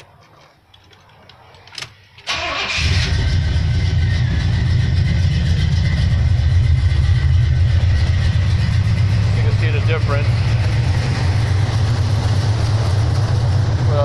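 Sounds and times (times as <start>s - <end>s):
car engine cranking and starting: 1.8s - 14.0s
loud steady engine idle: 2.5s - 14.0s.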